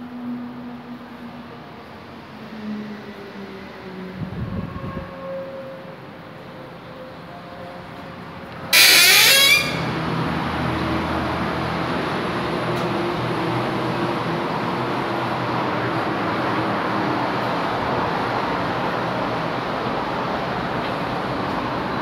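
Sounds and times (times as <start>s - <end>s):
distant city traffic hum: 0.0s - 22.0s.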